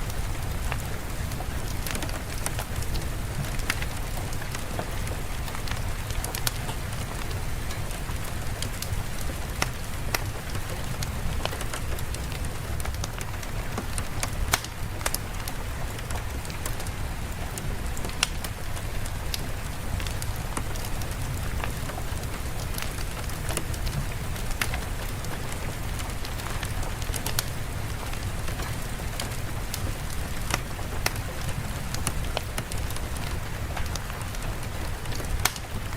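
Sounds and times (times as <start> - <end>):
steady rain: 0.0 - 35.9
wood fire crackling: 0.0 - 35.9.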